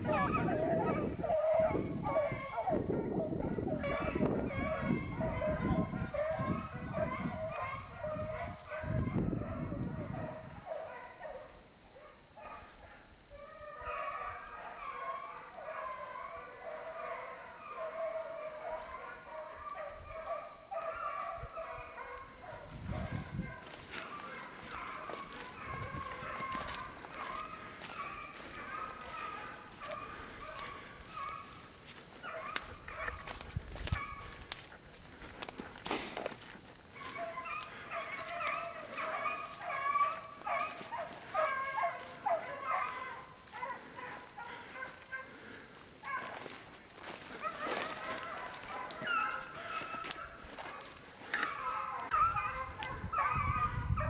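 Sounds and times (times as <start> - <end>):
hounds baying in chorus: 0.0 - 54.0.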